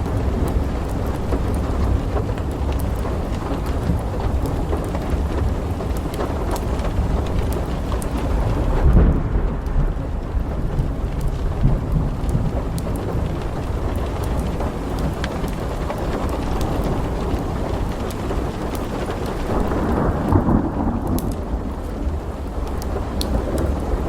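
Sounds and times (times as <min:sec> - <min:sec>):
rolling thunder: 0:00.0 - 0:24.0
steady rain: 0:00.0 - 0:24.0
wood fire crackling: 0:00.0 - 0:24.0.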